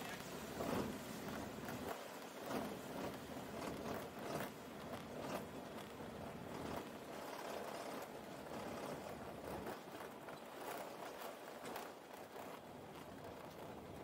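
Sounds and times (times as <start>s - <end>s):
wheels knocking and rattling: 0.0s - 14.0s.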